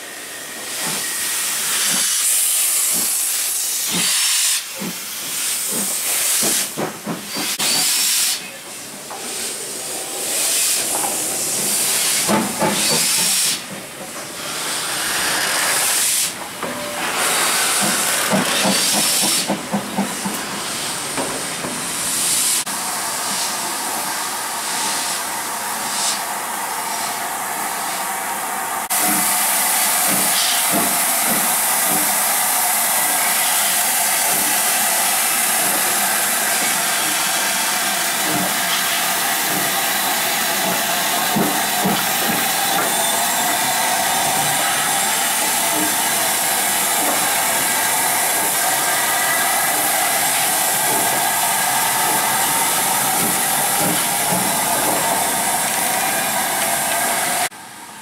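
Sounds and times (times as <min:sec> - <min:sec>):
steam locomotive hissing: 0:00.0 - 0:57.6.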